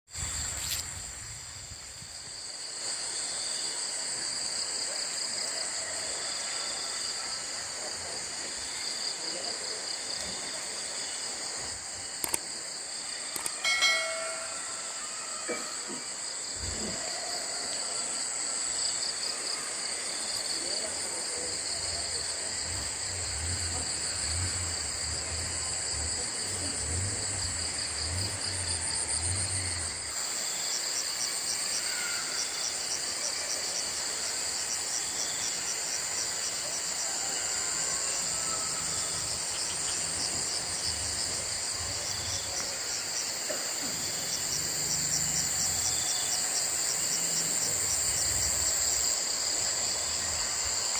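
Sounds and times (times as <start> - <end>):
crickets trilling: 0.1 - 50.9
fast pulsing insect chirp: 0.2 - 50.9.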